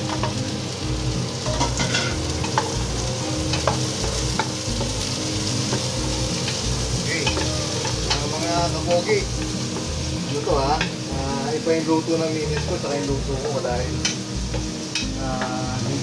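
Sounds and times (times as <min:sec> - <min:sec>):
aromatics sizzling in hot oil: 0:00.0 - 0:16.0.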